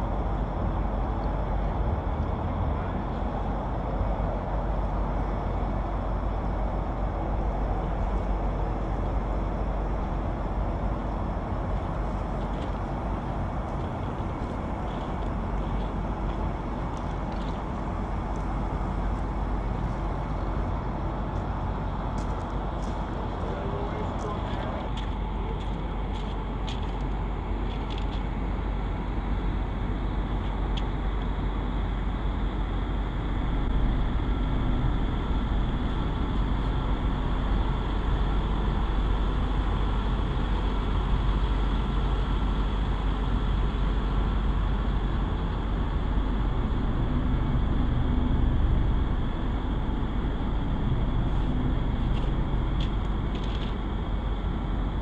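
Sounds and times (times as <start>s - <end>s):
crane engine low rumble: 0.0s - 55.0s
faint steady whine: 0.0s - 55.0s.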